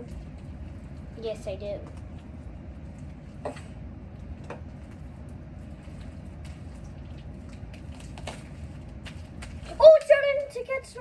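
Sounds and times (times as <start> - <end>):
slime squishing by hand: 0.0 - 11.0.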